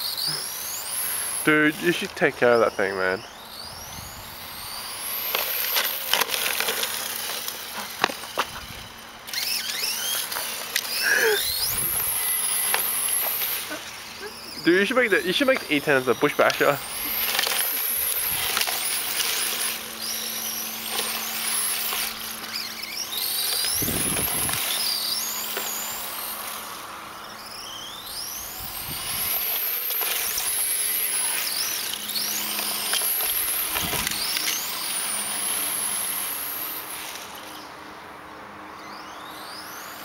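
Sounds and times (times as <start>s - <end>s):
electric motor whine: 0.0s - 40.0s.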